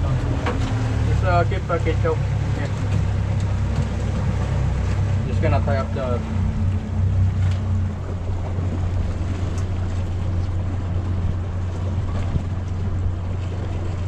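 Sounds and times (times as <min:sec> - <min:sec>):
motorboat engine droning: 0:00.0 - 0:14.0
water noise: 0:00.0 - 0:14.0
wind: 0:00.0 - 0:14.0.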